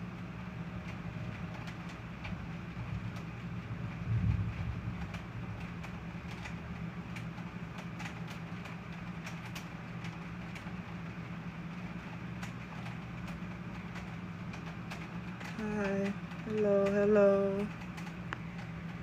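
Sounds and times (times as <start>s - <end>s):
low hum: 0.0s - 19.0s
rain falling: 0.4s - 19.0s.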